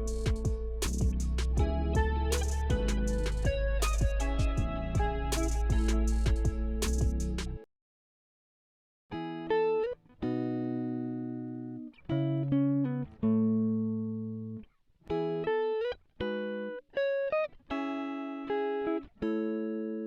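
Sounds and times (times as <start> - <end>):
plucked guitar: 0.0 - 7.6, 9.1 - 20.0.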